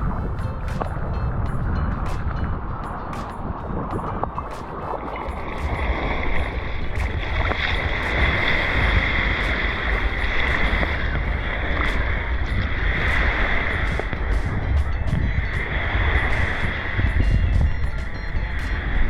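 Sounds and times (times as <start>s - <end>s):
steady high-pitched hum: 0.0s - 19.0s
wind buffeting microphone: 0.0s - 19.0s.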